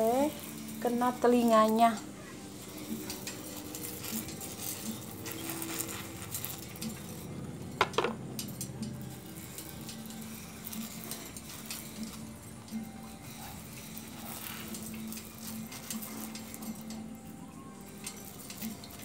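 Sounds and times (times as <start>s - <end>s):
water drips and patter: 0.0s - 7.3s, 7.9s - 19.0s
pressure sprayer hissing: 0.0s - 19.0s.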